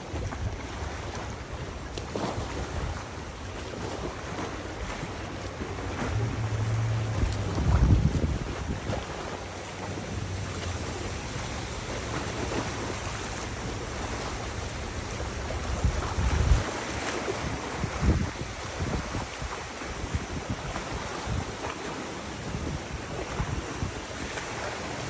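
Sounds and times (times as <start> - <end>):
river water flowing: 0.0 - 25.0
wind buffeting microphone: 0.0 - 25.0.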